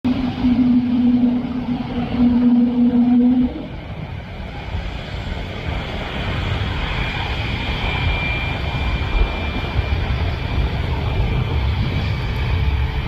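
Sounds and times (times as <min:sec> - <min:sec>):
jet engines during takeoff: 0:00.0 - 0:13.0
thin high engine whine: 0:00.1 - 0:13.0.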